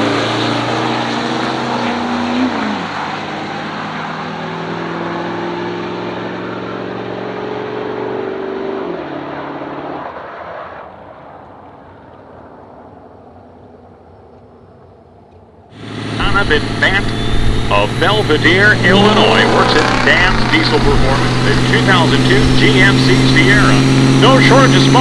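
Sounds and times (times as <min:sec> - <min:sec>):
diesel trucks accelerating: 0:00.0 - 0:10.9, 0:15.7 - 0:25.0.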